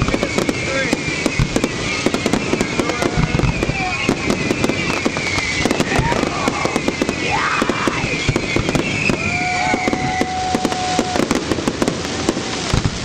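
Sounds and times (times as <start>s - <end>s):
fireworks crackling and popping: 0.0s - 13.0s
whistling fireworks: 0.0s - 13.0s.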